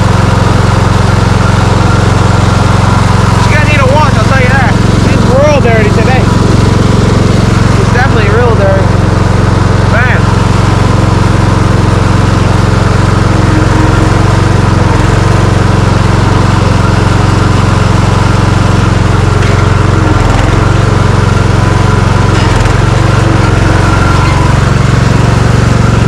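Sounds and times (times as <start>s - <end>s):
riding lawn mower engine running: 0.0s - 26.0s.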